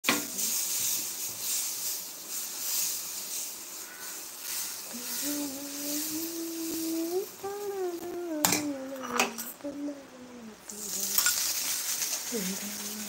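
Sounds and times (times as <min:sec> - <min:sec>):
batter sizzling on hot pan: 0:00.0 - 0:09.1, 0:10.7 - 0:13.0.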